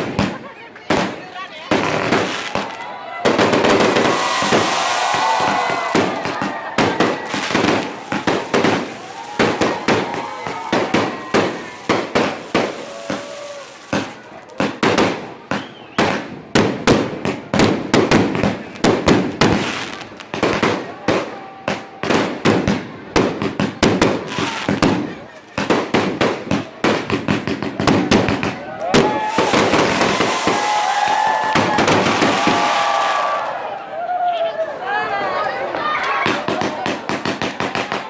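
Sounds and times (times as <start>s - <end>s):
faint voices: 0.0s - 16.2s, 20.7s - 38.0s
fireworks bangs and crackles: 0.0s - 33.6s, 36.0s - 38.0s.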